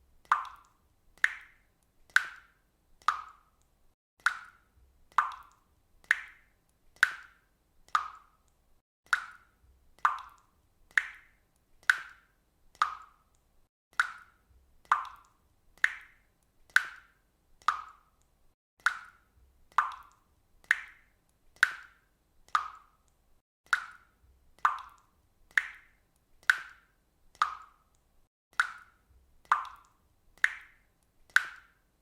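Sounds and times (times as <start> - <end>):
water dripping: 0.1 - 32.0.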